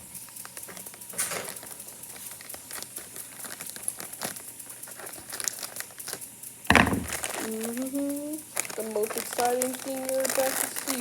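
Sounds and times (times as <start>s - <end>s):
packaging crinkling: 0.4s - 11.0s.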